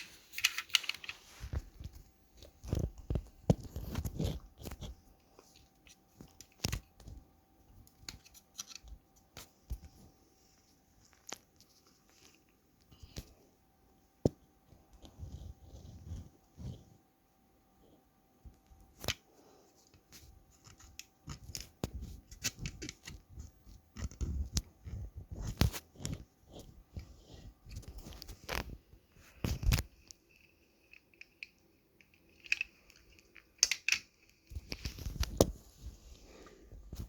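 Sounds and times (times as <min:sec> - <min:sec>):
toy car and packaging handled: 0:00.0 - 0:13.3, 0:18.8 - 0:36.0.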